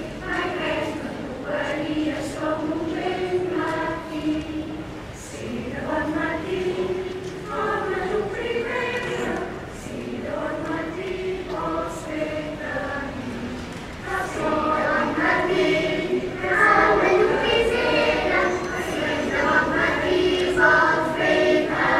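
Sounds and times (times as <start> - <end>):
mixed choir singing: 0.0 - 21.9.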